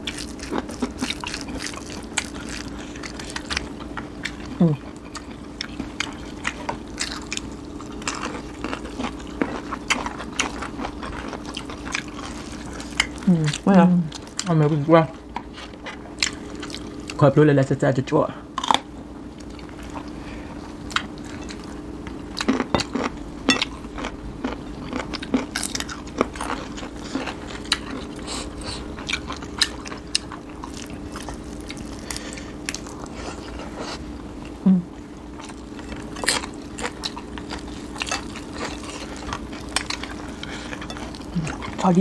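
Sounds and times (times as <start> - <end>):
chewing and crunching vegetables: 0.0 - 17.3, 18.5 - 42.0
faint steady hum: 0.0 - 42.0.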